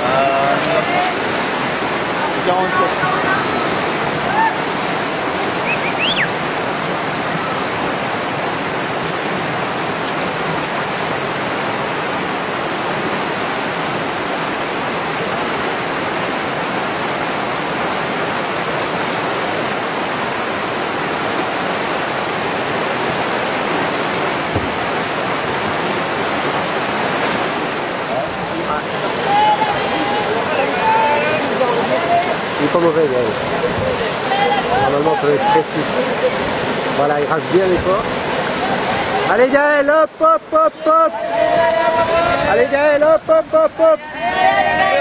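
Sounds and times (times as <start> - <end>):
rapids rushing: 0.0 - 45.0.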